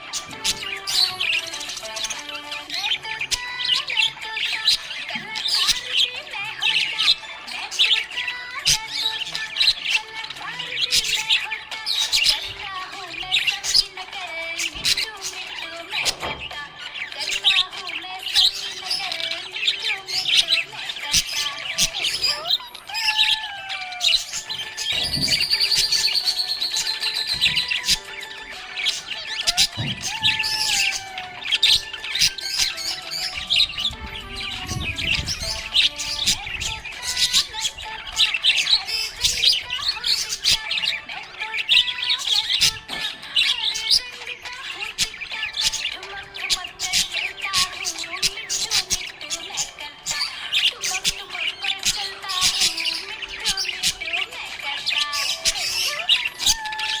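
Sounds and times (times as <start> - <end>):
bird squawks: 0.0 - 57.0
budgerigars chirping: 0.0 - 57.0
soft background music: 0.0 - 57.0.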